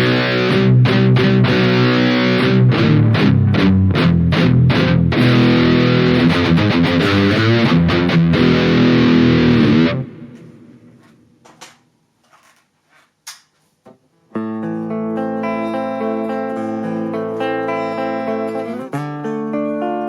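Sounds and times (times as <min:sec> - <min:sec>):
distorted electric guitar chords: 0:00.0 - 0:11.1, 0:14.4 - 0:20.0.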